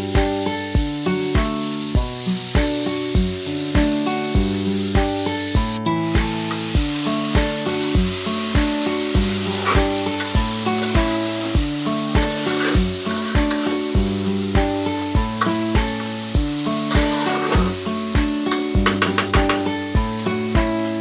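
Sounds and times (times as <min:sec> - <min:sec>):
background music with a beat: 0:00.0 - 0:21.0
food sizzling in a pan: 0:00.0 - 0:21.0.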